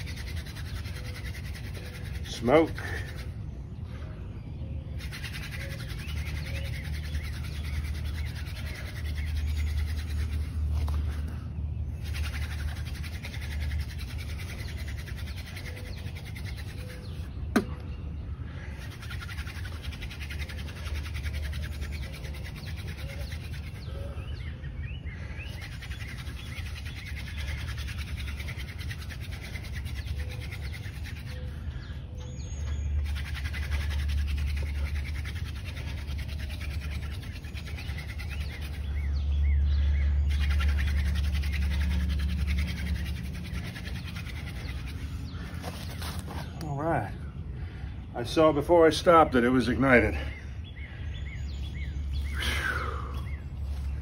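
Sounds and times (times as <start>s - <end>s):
hand drill rubbing and scraping: 0.0s - 3.5s, 5.0s - 17.7s, 18.6s - 24.5s, 25.2s - 47.3s.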